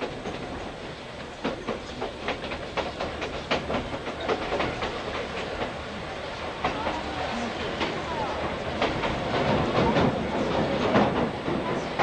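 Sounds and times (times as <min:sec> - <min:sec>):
wheels clicking over rail joints: 0:00.0 - 0:05.9, 0:06.5 - 0:12.0
train coach rumble: 0:00.0 - 0:12.0.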